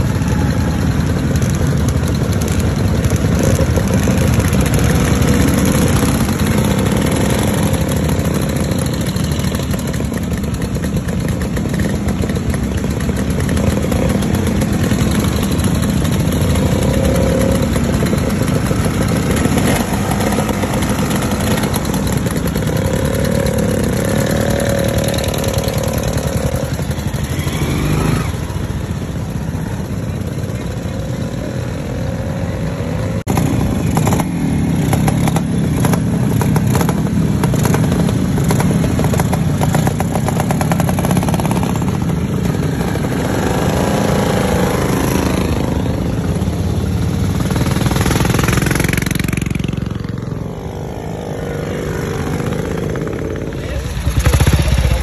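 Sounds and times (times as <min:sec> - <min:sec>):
motorcycle engines idling and revving: 0:00.0 - 0:55.0.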